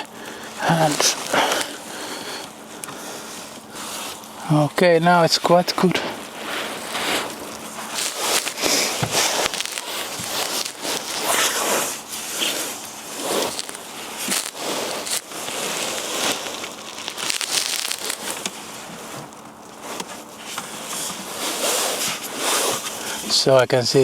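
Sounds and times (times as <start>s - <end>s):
led strip backing crinkling: 0.0s - 24.0s.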